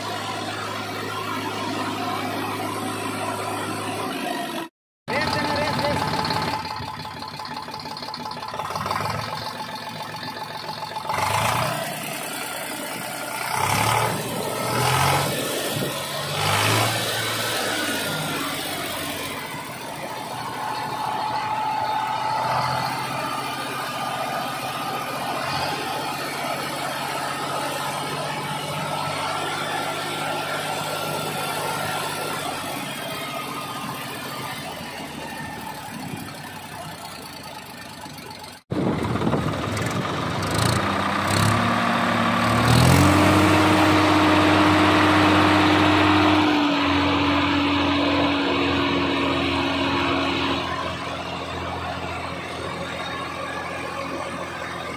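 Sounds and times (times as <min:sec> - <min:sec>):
diesel tractor engine revving: 0:00.0 - 0:54.9.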